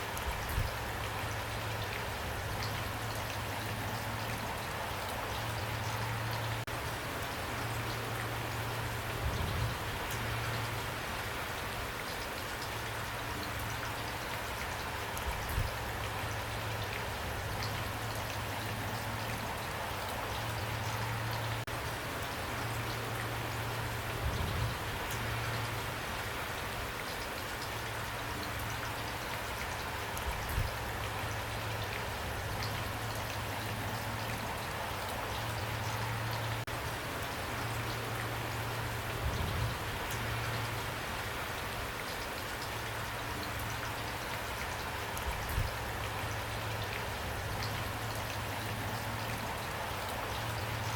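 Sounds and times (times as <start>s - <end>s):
rain falling: 0.0s - 50.9s.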